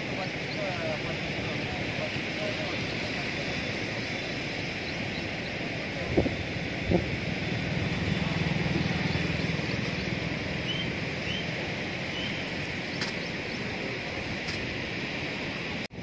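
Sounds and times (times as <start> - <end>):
low engine hum: 0.0 - 16.0
rushing floodwater: 0.0 - 16.0.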